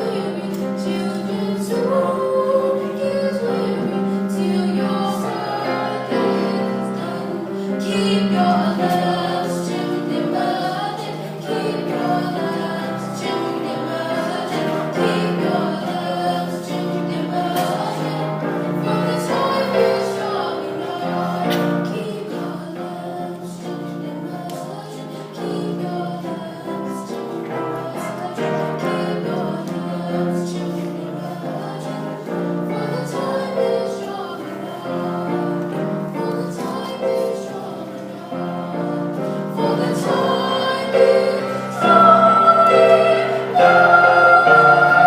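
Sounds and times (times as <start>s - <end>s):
choir singing sustained notes: 0.0s - 45.0s.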